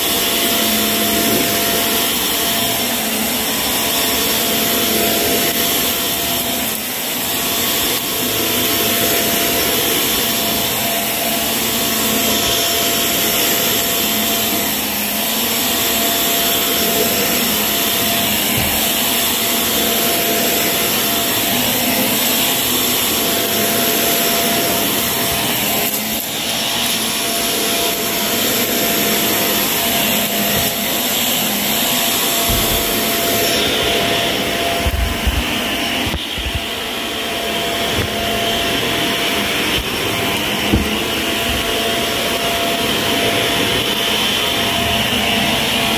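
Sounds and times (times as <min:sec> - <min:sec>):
vacuum cleaner running on carpet: 0:00.0 - 0:45.9.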